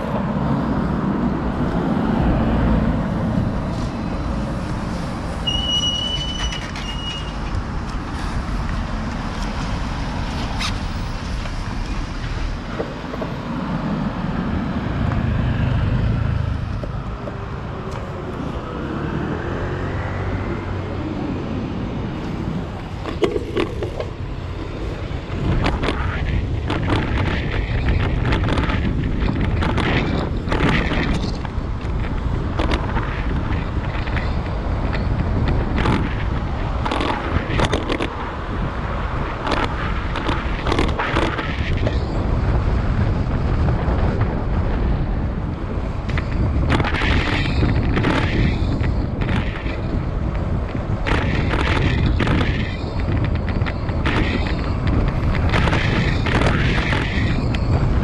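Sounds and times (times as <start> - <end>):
street traffic: 0.0 - 58.0
wind buffeting microphone: 0.0 - 58.0.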